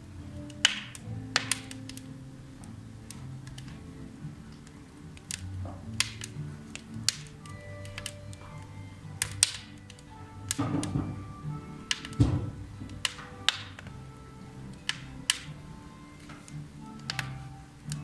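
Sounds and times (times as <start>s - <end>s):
firewood crackling and popping: 0.0s - 18.0s
soft background music: 0.0s - 18.0s.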